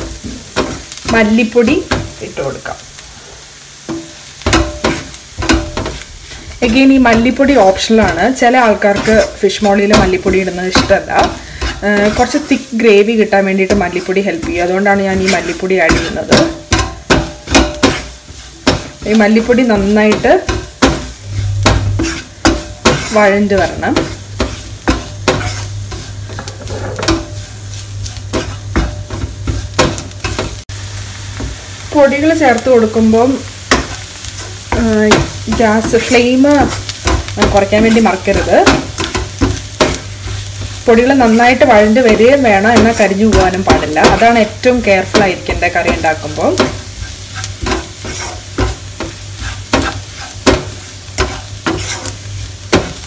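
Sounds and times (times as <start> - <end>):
spatula scraping a wok: 0.0 - 2.3, 3.0 - 30.7, 32.6 - 53.0
onions sizzling: 0.0 - 53.0.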